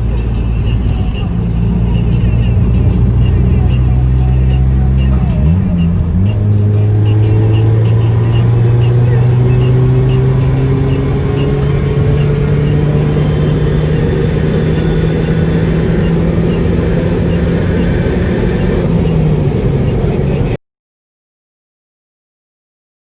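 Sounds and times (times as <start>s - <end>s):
car exhaust drone accelerating: 0.0s - 20.6s.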